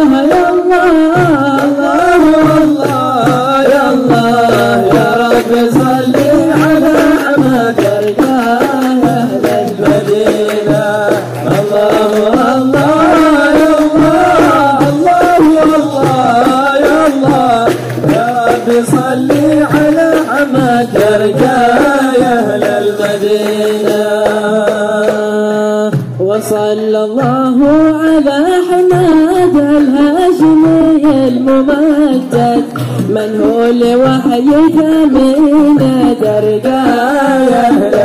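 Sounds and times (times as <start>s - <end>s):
hand drum beats: 0.0s - 38.0s
man singing melismatic lines: 0.0s - 38.0s.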